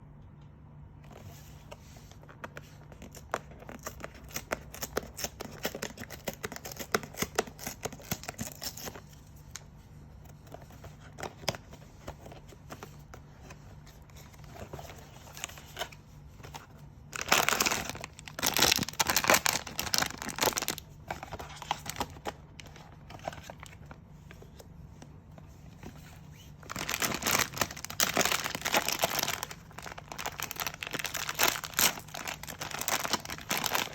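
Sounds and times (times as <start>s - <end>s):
packaging crinkling and tearing: 2.6s - 9.6s, 10.4s - 24.0s, 25.8s - 33.9s.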